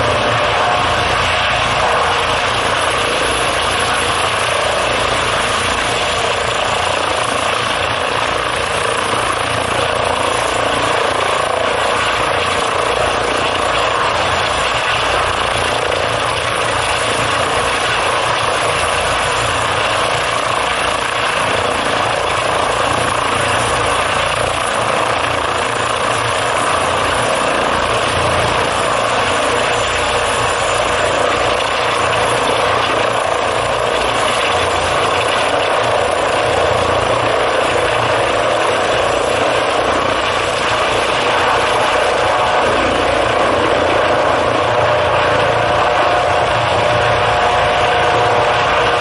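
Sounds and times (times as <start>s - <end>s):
helicopter hovering: 0.0s - 49.0s.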